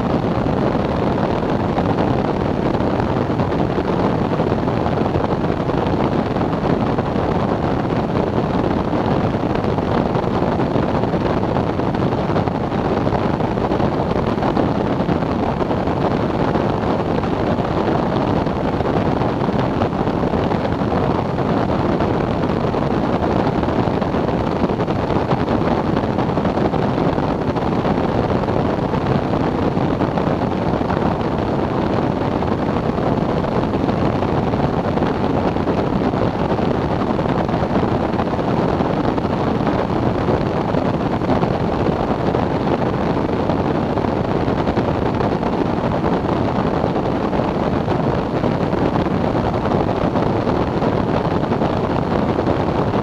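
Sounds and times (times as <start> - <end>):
wind noise on microphone: 0.0 - 53.0.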